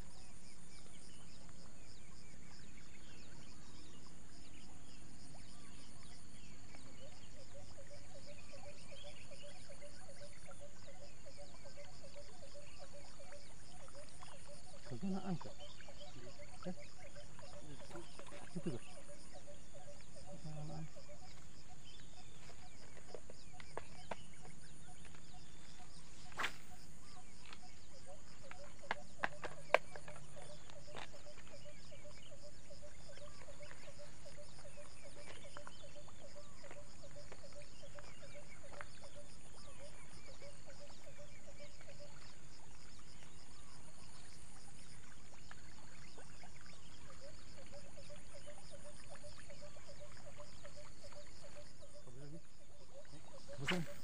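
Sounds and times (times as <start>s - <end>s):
frogs calling: 0.0s - 54.0s
insects chirping: 0.0s - 54.0s.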